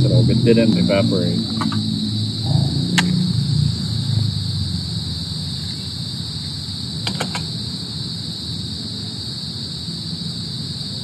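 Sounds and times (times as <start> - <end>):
crickets chirping: 0.0 - 11.0
steady low rumble: 0.0 - 11.0.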